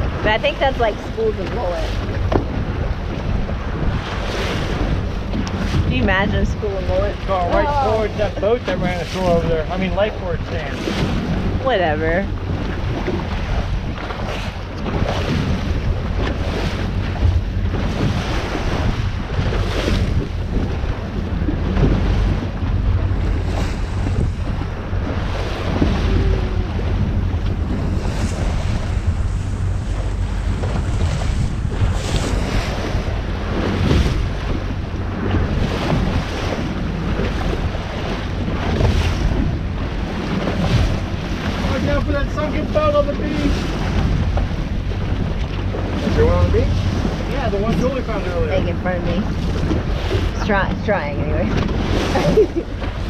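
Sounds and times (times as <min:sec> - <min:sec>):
boat engine low hum: 0:00.0 - 0:53.0
water washing: 0:00.0 - 0:53.0
wind buffeting microphone: 0:00.0 - 0:53.0.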